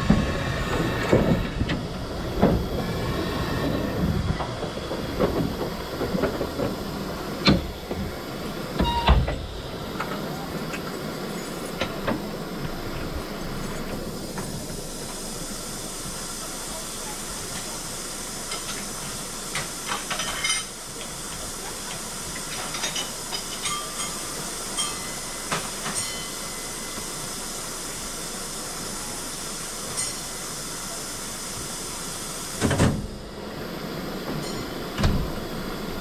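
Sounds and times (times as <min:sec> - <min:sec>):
steam locomotive hissing: 0:00.0 - 0:36.0.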